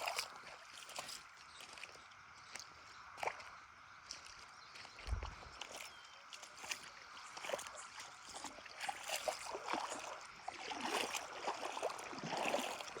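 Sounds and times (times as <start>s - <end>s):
feet splashing through water: 0.0s - 13.0s
running river water: 0.0s - 13.0s.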